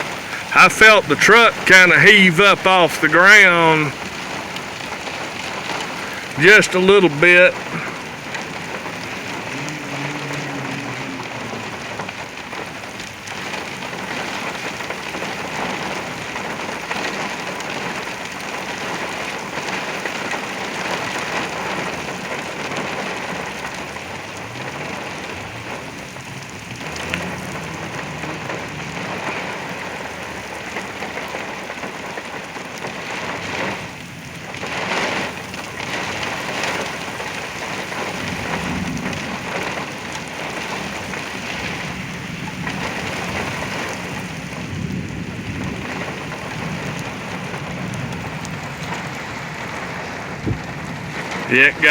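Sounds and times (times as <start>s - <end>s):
heavy rain pounding on a truck: 0.0s - 51.9s.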